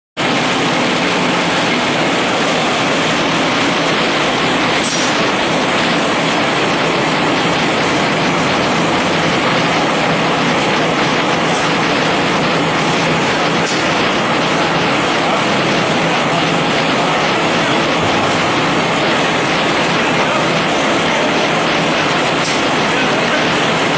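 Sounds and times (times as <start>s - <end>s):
paper converting machines running: 0.2s - 23.9s.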